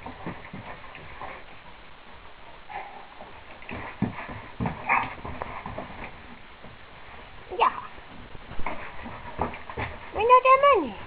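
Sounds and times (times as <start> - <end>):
dog paws thumping on snow: 0.0 - 11.0.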